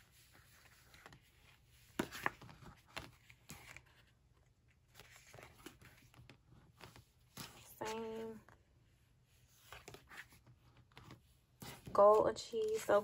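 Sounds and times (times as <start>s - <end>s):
book pages rustling and turning: 0.0s - 13.0s.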